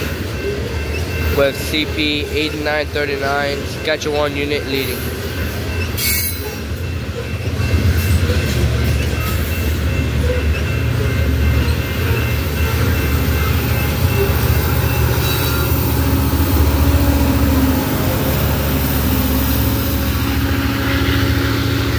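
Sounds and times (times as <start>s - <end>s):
diesel locomotive engine: 0.0s - 21.9s
steel wheels rumbling on rails: 0.0s - 21.9s.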